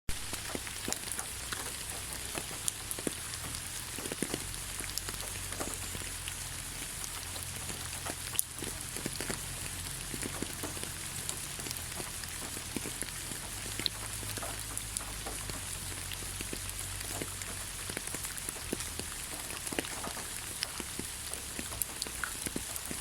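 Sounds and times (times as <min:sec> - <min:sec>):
rain falling on leaves: 0:00.1 - 0:23.0.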